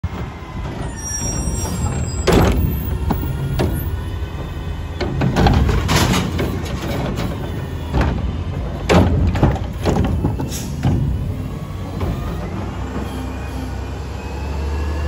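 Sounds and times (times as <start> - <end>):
hydraulics whirring: 0.0 - 15.0
bangs and thuds of trash cart: 0.1 - 13.1.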